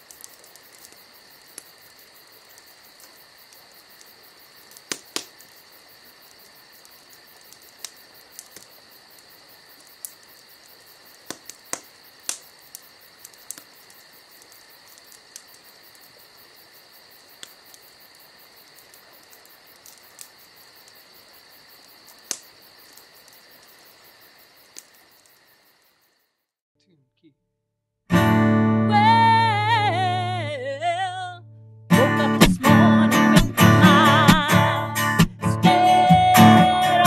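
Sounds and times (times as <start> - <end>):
insect chorus chirring: 0.0 - 26.5, 31.9 - 37.0.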